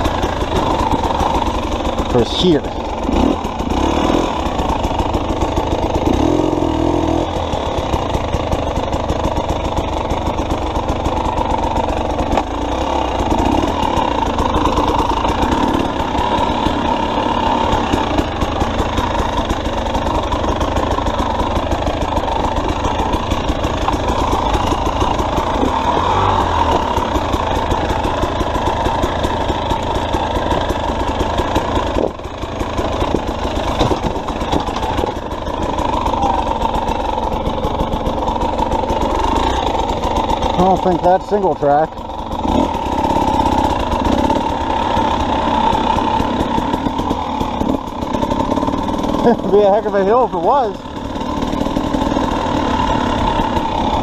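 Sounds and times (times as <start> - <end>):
two-stroke engine running low revs: 0.0 - 54.0.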